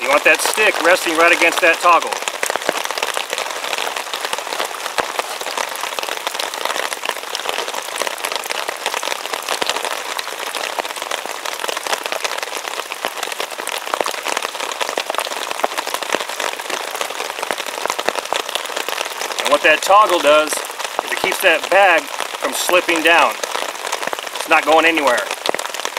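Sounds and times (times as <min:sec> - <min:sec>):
rain falling on a tarp: 0:00.0 - 0:25.9.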